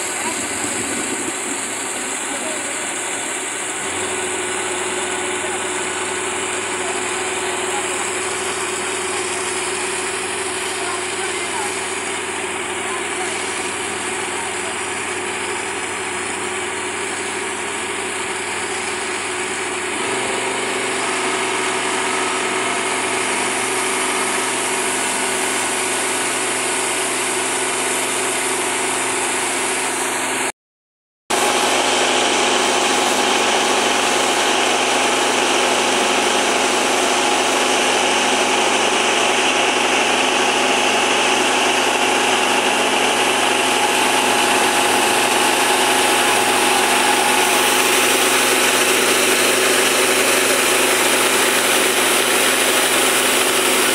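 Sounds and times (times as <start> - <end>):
combine harvester engine drone: 0.0 - 30.5, 31.3 - 53.9.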